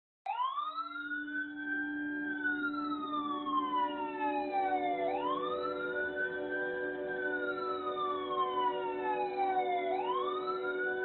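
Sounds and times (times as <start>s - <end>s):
wailing siren: 0.3s - 11.0s.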